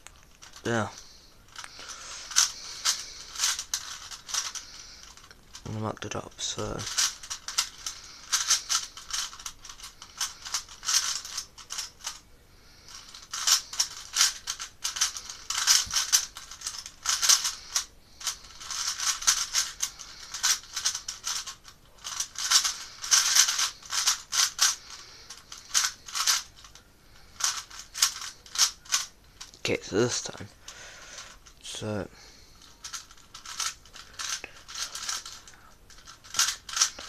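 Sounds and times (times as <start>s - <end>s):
puzzle cube clicking and rattling: 0.0s - 12.2s, 12.9s - 30.6s, 32.6s - 37.0s.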